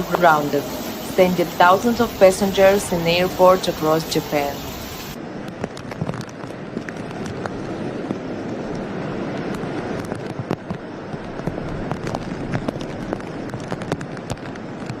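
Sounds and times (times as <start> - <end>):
wind and rain rushing: 0.0 - 15.0.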